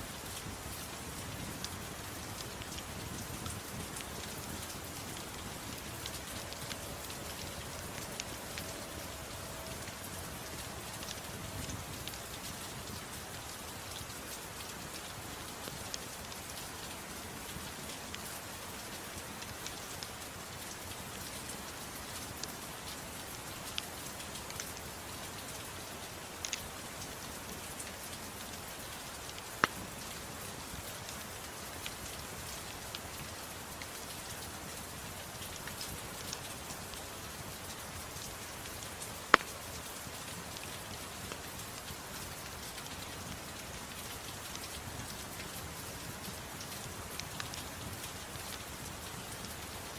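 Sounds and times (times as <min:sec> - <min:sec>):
gentle rain hiss: 0:00.0 - 0:49.9
wood fire crackling: 0:00.1 - 0:49.9.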